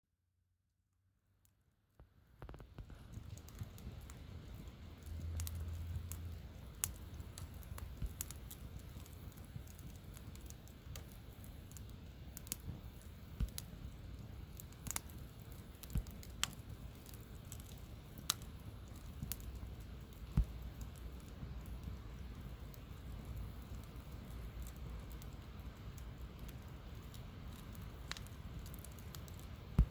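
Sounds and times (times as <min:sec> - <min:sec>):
campfire crackling: 0:02.2 - 0:29.9
low steady rumble: 0:02.8 - 0:29.9.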